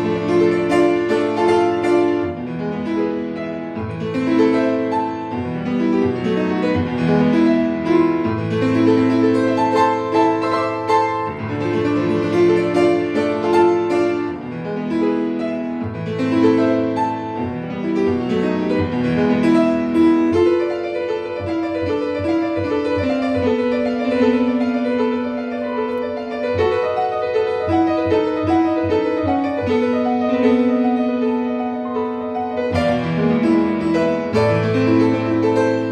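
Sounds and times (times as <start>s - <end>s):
solo grand piano piece: 0.0s - 35.9s.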